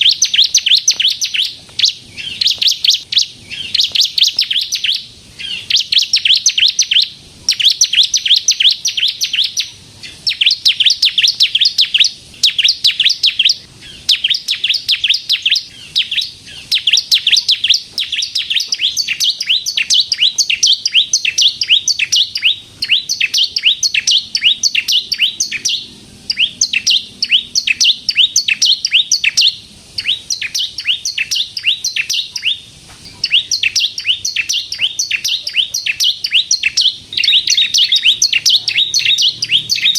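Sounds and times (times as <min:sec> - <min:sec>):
bird singing sharp high notes: 0:00.0 - 0:39.9.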